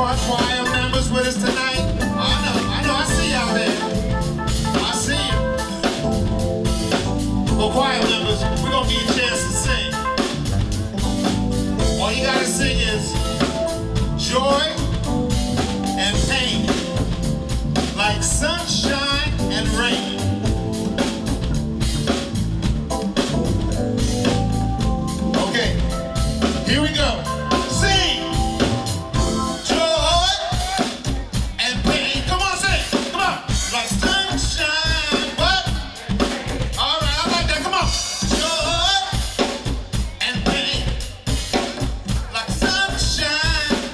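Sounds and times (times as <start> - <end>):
drum kit: 0.0 - 43.9
live band playing: 0.0 - 43.9.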